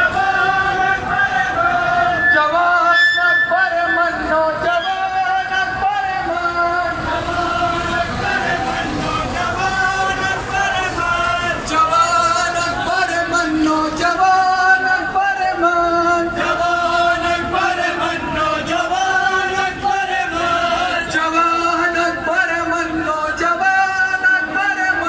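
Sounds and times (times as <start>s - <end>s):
crowd hum: 0.0s - 25.0s
man chanting over loudspeakers: 0.0s - 25.0s.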